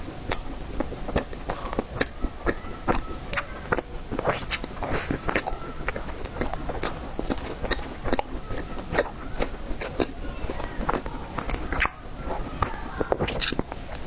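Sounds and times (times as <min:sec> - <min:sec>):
chewing mouth clicks and smacks: 0:00.3 - 0:14.0.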